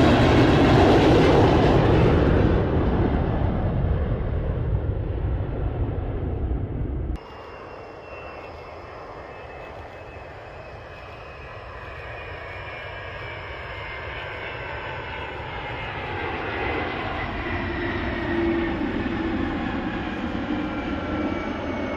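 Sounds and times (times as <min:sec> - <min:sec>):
jet engines roaring and whining: 0:00.0 - 0:21.9.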